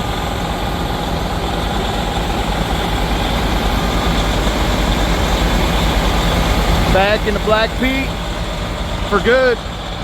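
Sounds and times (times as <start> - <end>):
heavy truck engine running: 0.0 - 10.0.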